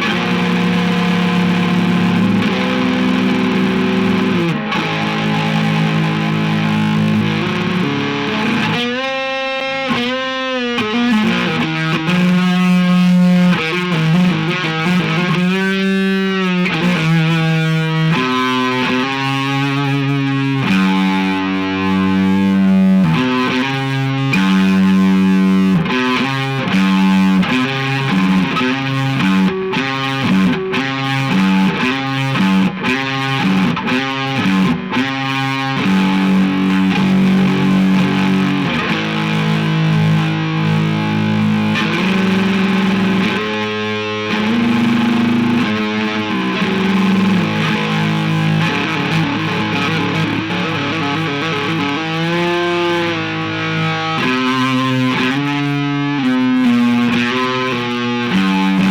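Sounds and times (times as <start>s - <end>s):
distorted electric guitar: 0.0s - 58.9s.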